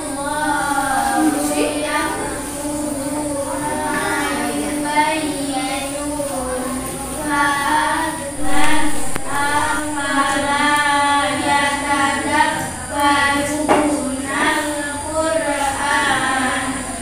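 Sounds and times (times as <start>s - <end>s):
child singing: 0.0s - 17.0s.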